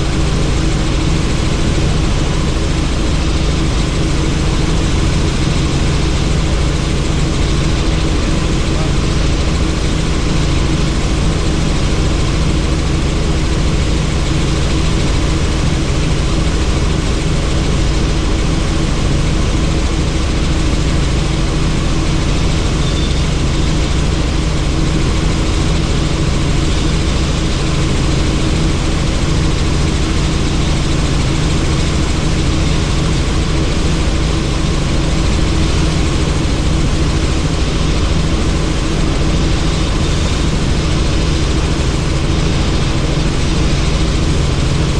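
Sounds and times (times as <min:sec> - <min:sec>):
helicopter cabin engine and rotor noise: 0:00.0 - 0:44.9.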